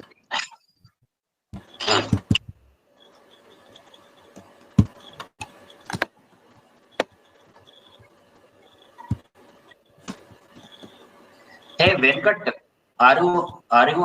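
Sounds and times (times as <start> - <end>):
faint steady hum: 1.5 - 14.0.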